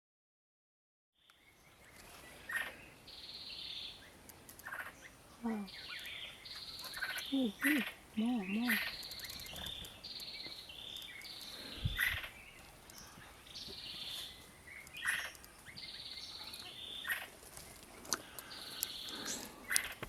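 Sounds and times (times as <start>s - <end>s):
buzzy bird calls: 1.7s - 20.0s.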